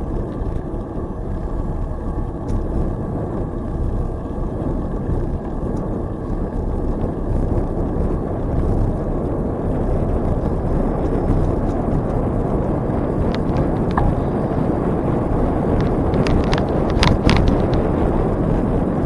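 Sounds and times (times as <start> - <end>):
rumbling wind on microphone: 0.0 - 19.0.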